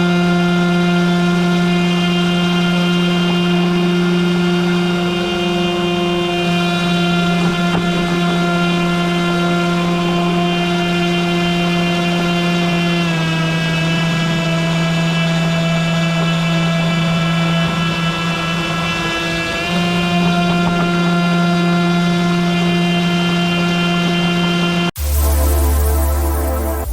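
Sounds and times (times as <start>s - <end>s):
electric motor and propeller whine: 0.0s - 26.9s.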